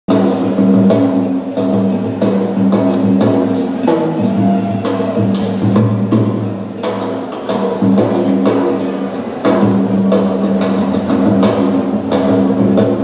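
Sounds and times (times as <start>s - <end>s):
drum kit beats: 0.1s - 13.0s
live rock band playing: 0.1s - 13.0s.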